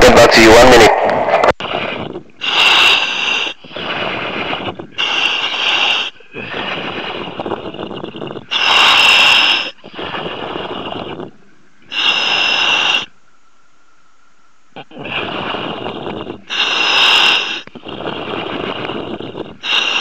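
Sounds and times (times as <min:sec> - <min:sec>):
diver breathing through helmet: 0:01.6 - 0:13.1, 0:14.8 - 0:20.0.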